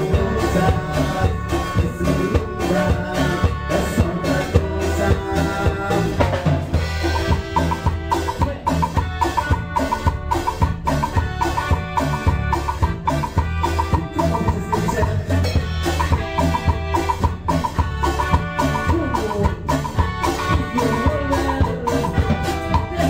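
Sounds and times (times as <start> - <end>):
drum kit beat: 0.0 - 23.0
high riff of short notes: 0.0 - 23.0.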